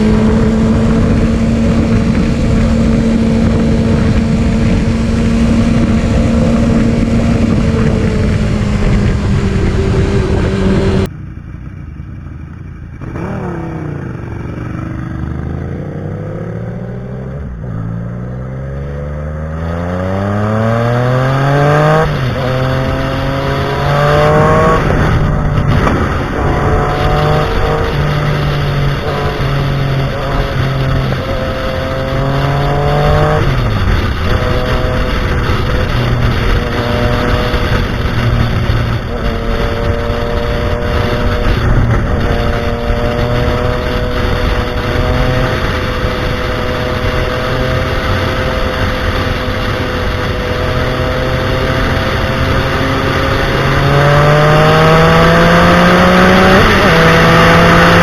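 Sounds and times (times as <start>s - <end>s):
wind rushing over microphone: 0.0s - 11.1s, 13.0s - 58.0s
motorcycle engine accelerating: 0.0s - 58.0s.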